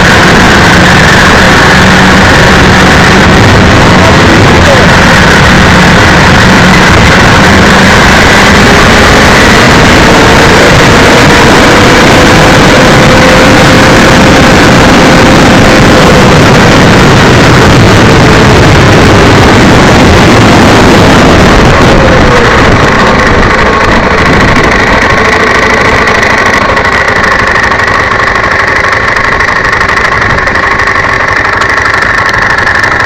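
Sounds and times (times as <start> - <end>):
motorcycle engine: 0.0 - 33.0
wind rush on microphone: 0.0 - 33.0.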